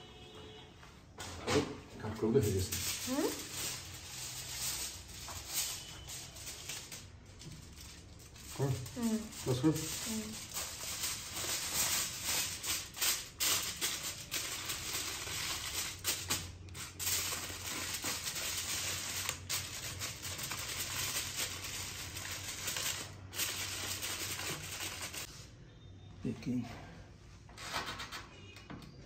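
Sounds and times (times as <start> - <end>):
aluminium foil crinkling: 2.0 - 25.3.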